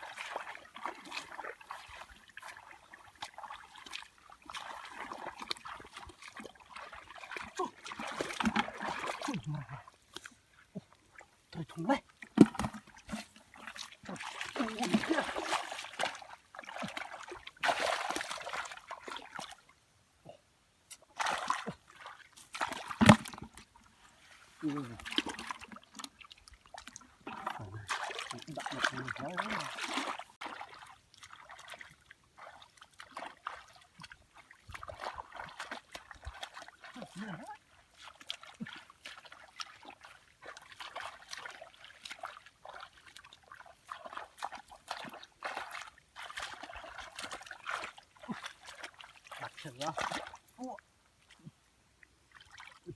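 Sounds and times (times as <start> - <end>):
splashing of muddy water: 0.0 - 19.7, 21.0 - 51.6, 52.2 - 52.9.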